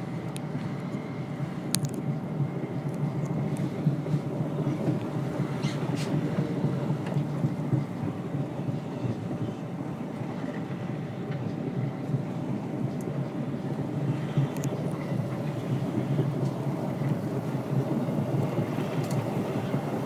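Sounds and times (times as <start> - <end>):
train rumbling on tracks: 0.0 - 20.0.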